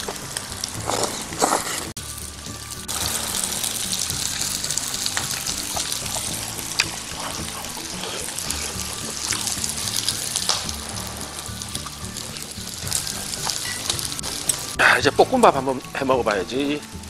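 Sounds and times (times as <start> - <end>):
meat sizzling on a hot griddle: 0.0 - 17.0.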